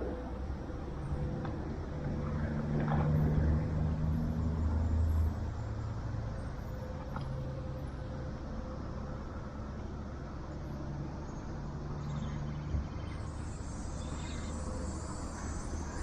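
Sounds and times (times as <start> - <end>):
low engine hum: 0.0 - 16.0
steady background noise: 0.0 - 16.0.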